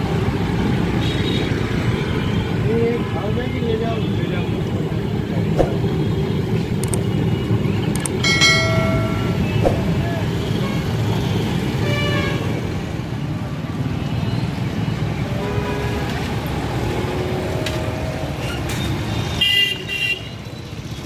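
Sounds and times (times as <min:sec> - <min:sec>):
traffic rumble: 0:00.0 - 0:19.4.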